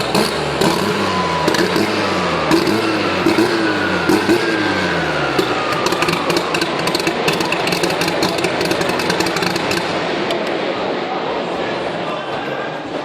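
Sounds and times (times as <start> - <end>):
engine decelerating: 0.0 - 12.1
exhaust crackles: 0.0 - 12.2.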